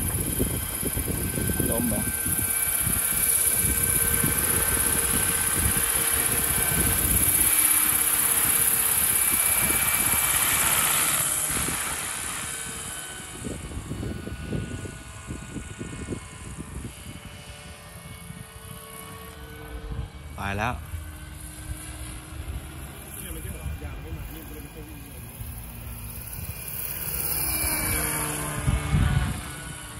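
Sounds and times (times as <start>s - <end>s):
model helicopter high whine: 0.0s - 29.9s.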